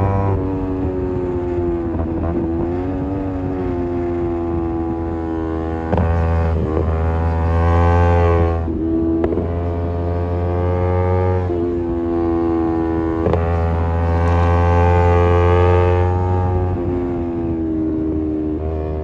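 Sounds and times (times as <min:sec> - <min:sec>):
motorcycle engine under throttle: 0:00.0 - 0:19.0.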